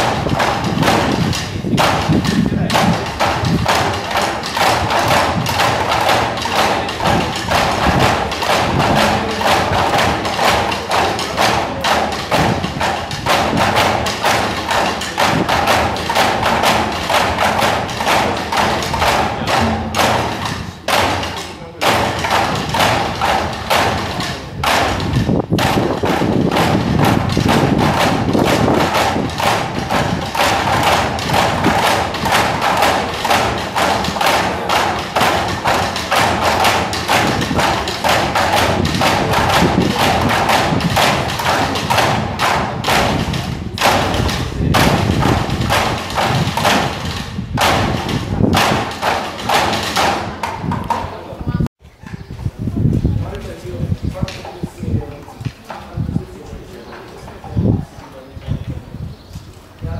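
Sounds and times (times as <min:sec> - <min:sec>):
side drums playing fast rhythm: 0:00.0 - 0:51.0.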